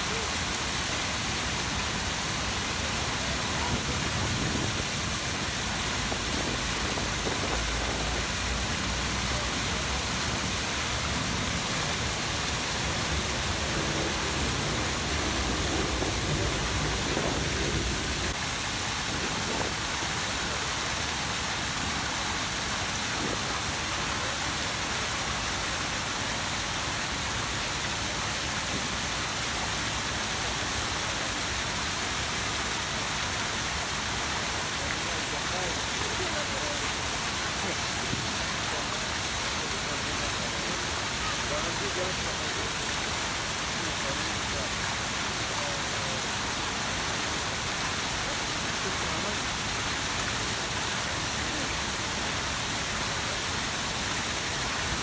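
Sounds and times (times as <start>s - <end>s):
fountains splashing into pool: 0.0s - 55.0s.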